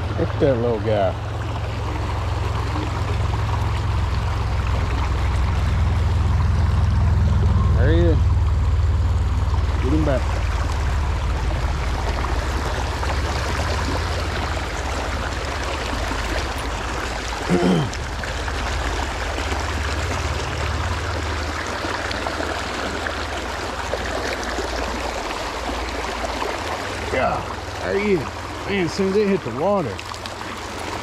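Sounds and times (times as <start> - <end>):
river water rushing: 0.0 - 7.5, 8.3 - 31.0.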